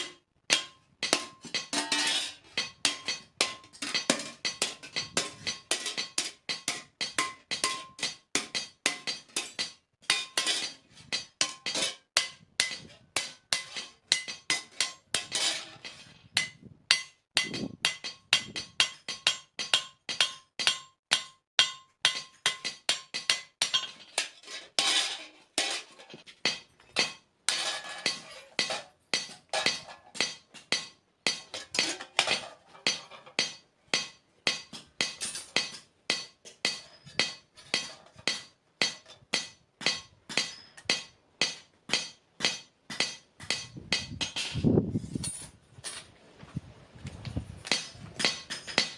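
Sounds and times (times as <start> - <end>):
hammer striking steel on anvil: 0.0 - 44.7, 47.6 - 48.9.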